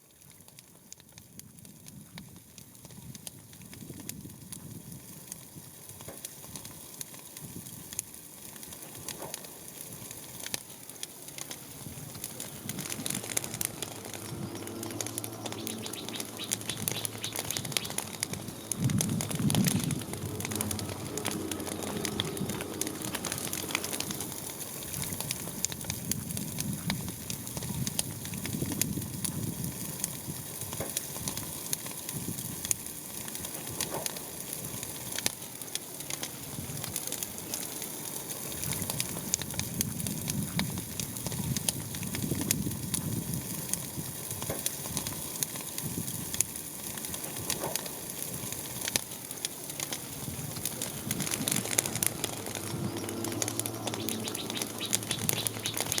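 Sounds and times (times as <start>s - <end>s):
dense crackling pops: 0.0s - 56.0s.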